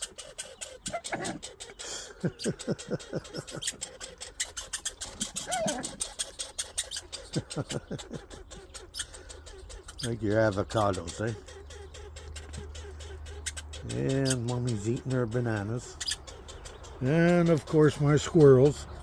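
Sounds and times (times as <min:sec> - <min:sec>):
rising and falling animal call: 0:00.0 - 0:17.4
animals feeding clicks and crunching: 0:00.0 - 0:19.0.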